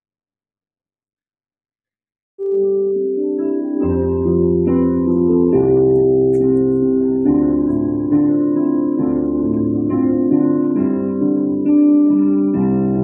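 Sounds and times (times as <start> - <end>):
electronic keyboard chords: 2.4 - 13.0
keyboard bass notes: 2.4 - 13.0.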